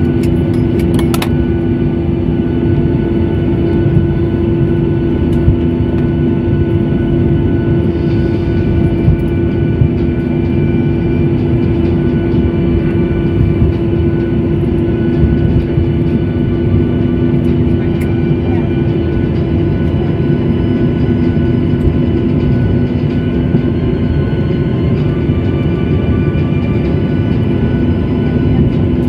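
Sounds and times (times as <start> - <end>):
aircraft engines roaring: 0.0 - 29.0
steady hum: 0.0 - 29.0.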